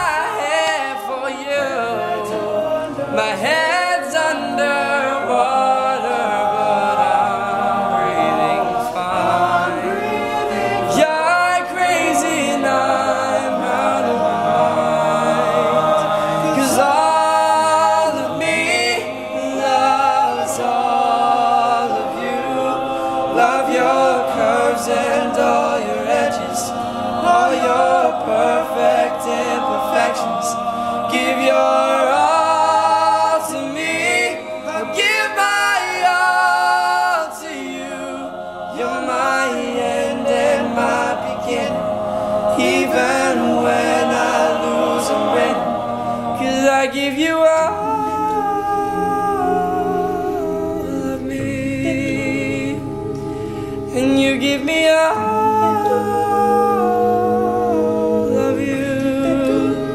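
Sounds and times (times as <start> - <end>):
male voices singing in harmony: 0.0 - 59.9.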